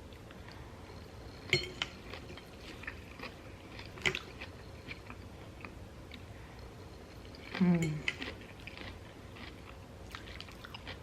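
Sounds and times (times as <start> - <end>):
chewing crunchy lettuce: 0.0 - 11.0.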